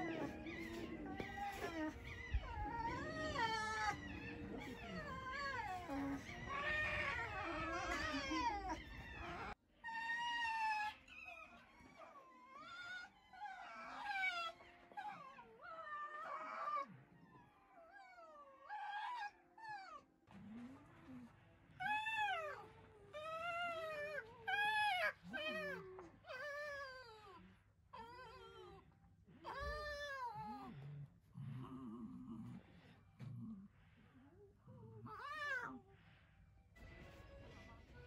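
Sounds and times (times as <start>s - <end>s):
foxes whining: 0.0s - 33.7s, 34.6s - 36.2s.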